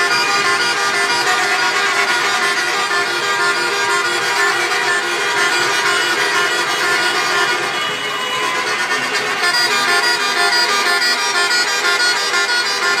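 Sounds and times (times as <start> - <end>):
many car horns honking: 0.0 - 13.0.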